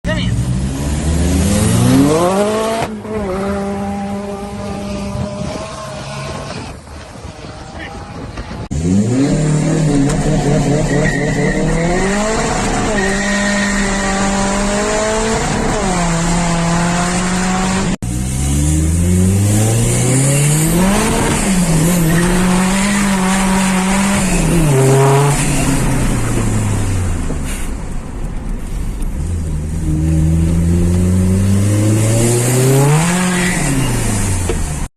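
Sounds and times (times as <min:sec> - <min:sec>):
diesel engine revving: 0:00.3 - 0:06.5, 0:07.5 - 0:27.8, 0:29.0 - 0:34.9.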